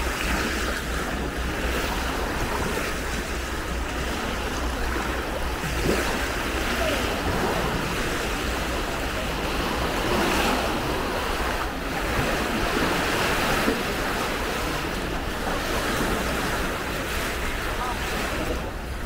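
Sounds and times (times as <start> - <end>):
surf washing onto beach: 0.0 - 19.0
wind rumbling on microphone: 0.0 - 19.0.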